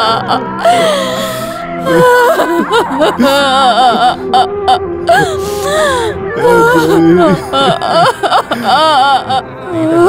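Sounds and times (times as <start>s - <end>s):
sad film music: 0.0s - 10.0s
woman crying and wailing: 0.0s - 10.0s.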